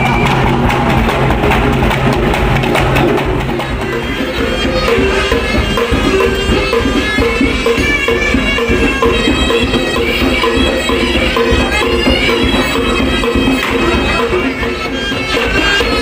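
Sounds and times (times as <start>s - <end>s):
hand drums and percussion: 0.0s - 16.0s.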